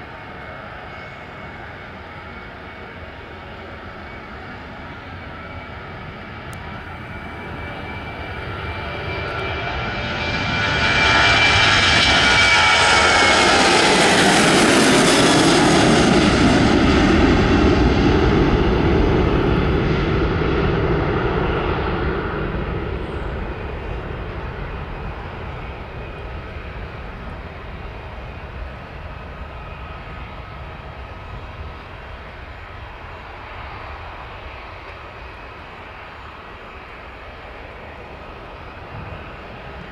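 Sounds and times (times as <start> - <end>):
high jet engine whine: 0.0 - 39.9
jet engines roaring: 0.0 - 39.9.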